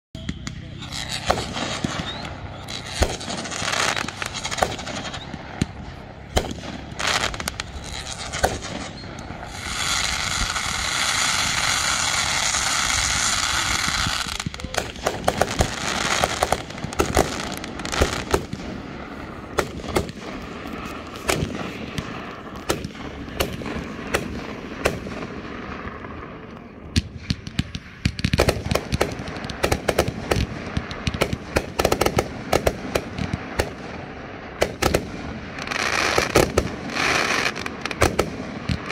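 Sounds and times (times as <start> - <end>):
fireworks popping: 0.1 - 38.9
fireworks crackling: 0.2 - 38.9
firework hissing: 0.4 - 26.2, 27.9 - 38.9.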